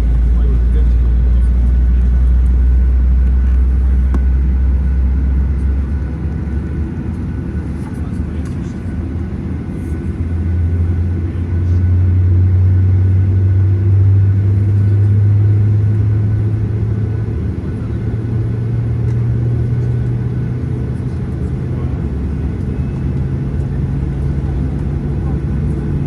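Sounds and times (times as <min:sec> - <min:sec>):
jet engine drone in cabin: 0:00.0 - 0:26.0.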